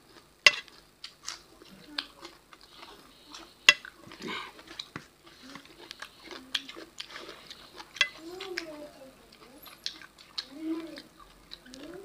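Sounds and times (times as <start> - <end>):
chewing: 0.0 - 12.0
fingers working food on plates: 0.0 - 12.0.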